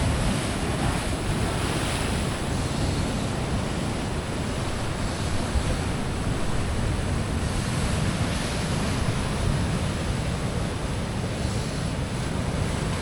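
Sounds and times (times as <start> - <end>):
surf washing against rocks: 0.0 - 13.0
wind on microphone: 0.0 - 13.0.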